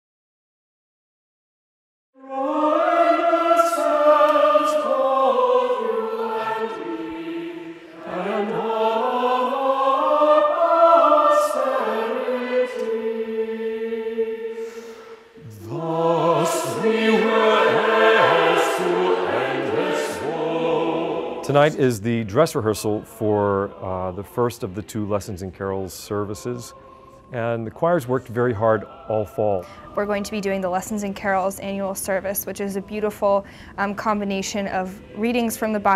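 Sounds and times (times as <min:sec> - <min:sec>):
mixed choir singing a cappella: 0:02.2 - 0:35.9.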